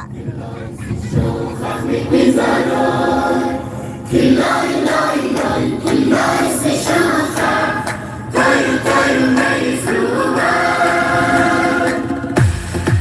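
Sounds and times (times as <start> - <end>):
choir singing: 0.1 - 12.4.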